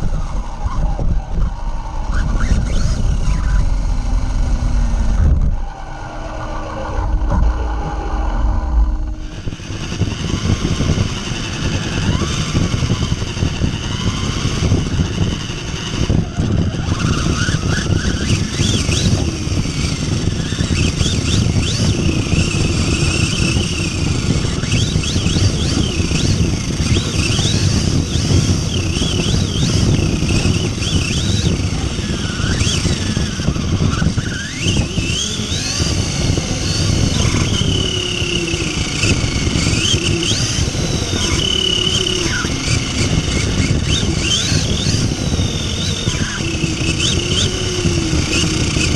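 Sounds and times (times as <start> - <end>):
rc truck motor whining: 0.0 - 48.9.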